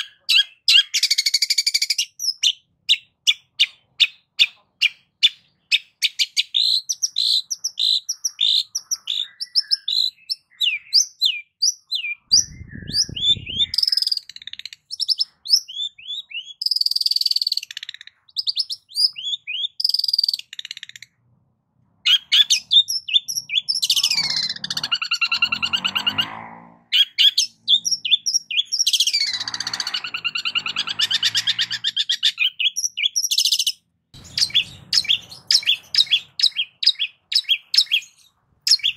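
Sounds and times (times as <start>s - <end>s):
bird singing varied song: 0.0s - 21.2s, 22.0s - 38.9s
harsh rasping bird calls: 0.0s - 21.2s, 22.0s - 38.9s.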